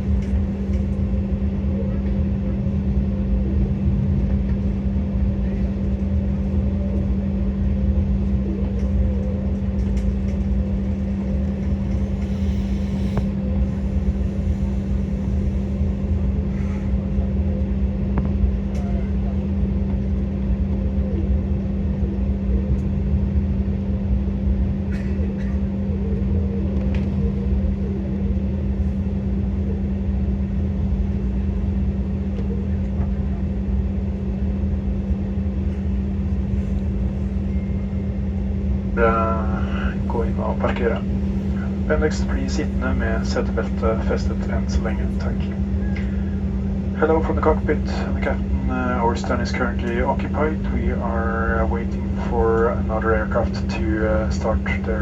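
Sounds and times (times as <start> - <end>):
jet cabin engine hum: 0.0 - 55.0.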